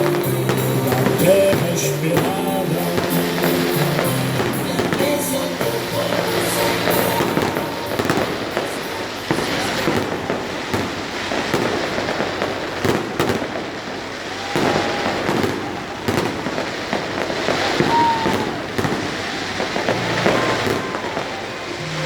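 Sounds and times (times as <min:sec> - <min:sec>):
firework whistling: 0:00.0 - 0:22.0
fireworks bangs: 0:00.0 - 0:22.0
fireworks crackling: 0:00.0 - 0:22.0.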